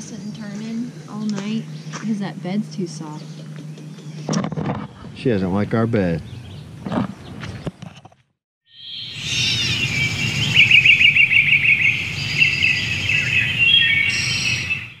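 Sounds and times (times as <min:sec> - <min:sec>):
birds chirping and trilling: 0:00.0 - 0:08.0, 0:08.7 - 0:15.0.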